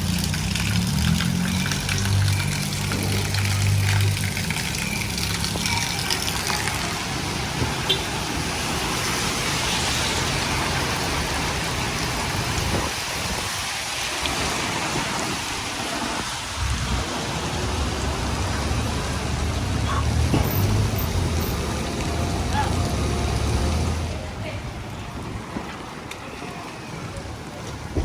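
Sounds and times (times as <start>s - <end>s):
heavy rain pattering: 0.0s - 28.0s.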